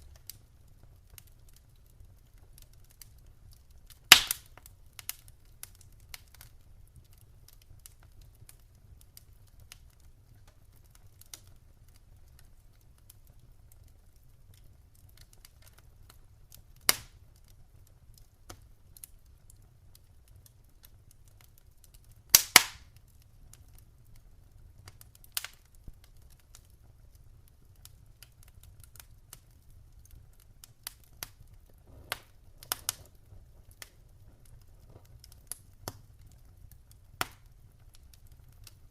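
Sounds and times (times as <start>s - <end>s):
loud snaps of fire: 0.0s - 38.9s
wood fire crackling: 0.0s - 38.9s.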